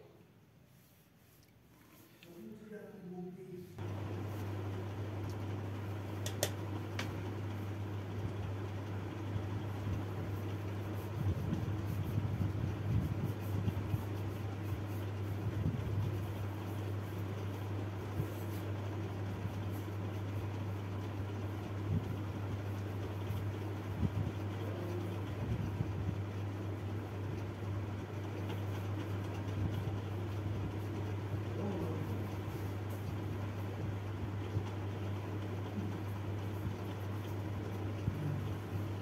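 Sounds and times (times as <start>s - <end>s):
room noise hiss: 0.0s - 39.0s
steady low hum: 0.0s - 39.0s.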